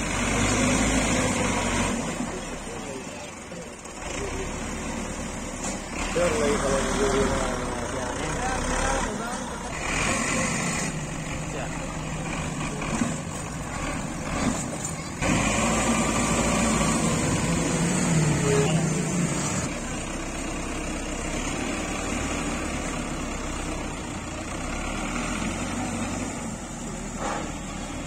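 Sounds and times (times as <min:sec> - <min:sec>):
tractor diesel engine revving: 0:00.0 - 0:28.0.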